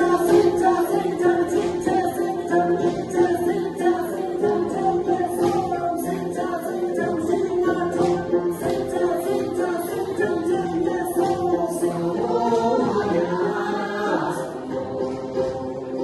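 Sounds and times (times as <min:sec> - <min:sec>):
group singing in unison: 0:00.0 - 0:16.0.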